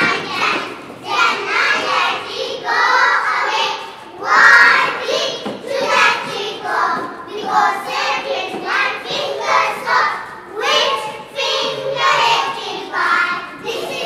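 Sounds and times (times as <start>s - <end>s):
children singing: 0.0s - 14.0s.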